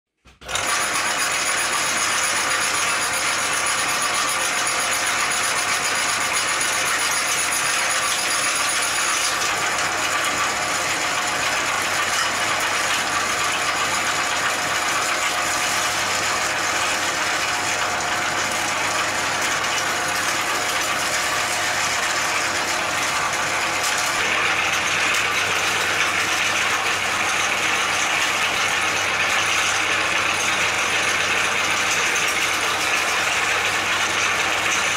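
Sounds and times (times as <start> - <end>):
meat grinder running: 0.2 - 34.9.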